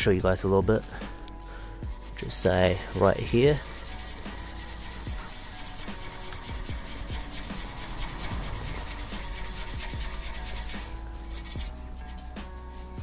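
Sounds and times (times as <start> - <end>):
steel wool scrubbing metal pipe: 1.8 - 13.0.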